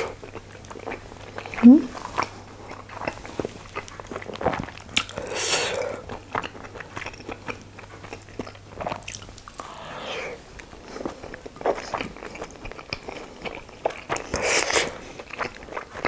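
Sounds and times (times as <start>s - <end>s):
chewing dumpling: 0.0s - 16.0s.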